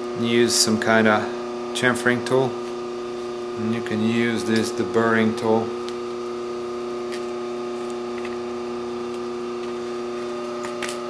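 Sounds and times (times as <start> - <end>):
shop machine hum: 0.0 - 11.0.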